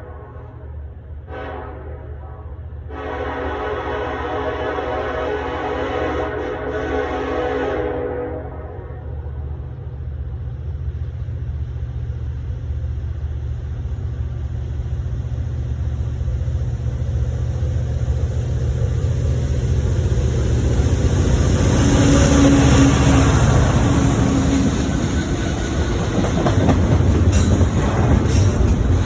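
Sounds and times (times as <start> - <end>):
diesel locomotives rumbling: 0.0 - 29.0.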